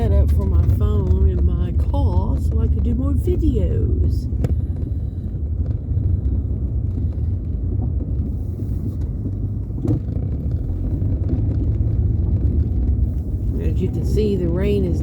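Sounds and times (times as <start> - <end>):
engine and road noise in car: 0.0 - 15.0.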